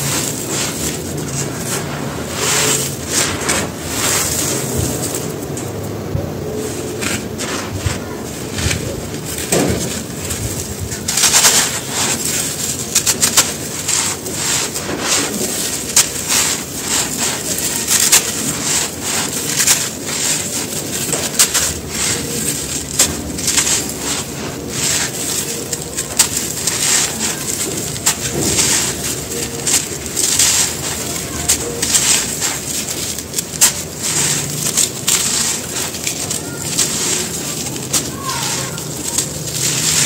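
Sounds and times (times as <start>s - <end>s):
powder pouring onto pile: 0.0s - 5.8s, 6.4s - 40.0s
sand-cement chunks crunching: 0.0s - 40.0s.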